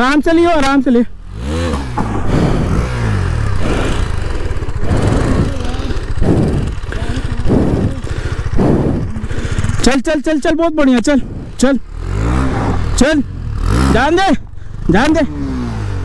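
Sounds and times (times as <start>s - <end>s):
motorcycle engine revving hard: 0.6s - 16.0s.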